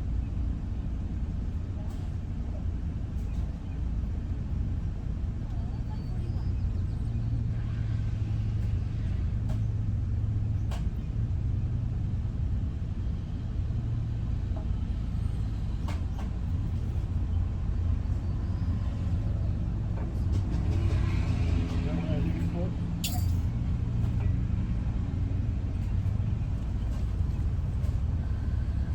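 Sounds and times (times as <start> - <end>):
motor vehicle rumble: 0.0 - 28.9.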